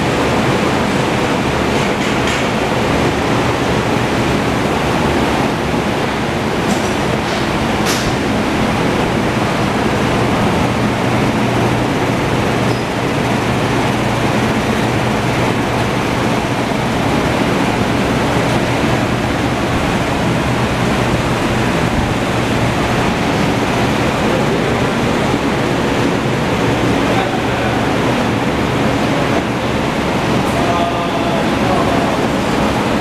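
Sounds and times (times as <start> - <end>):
electric fan running: 0.0 - 33.0.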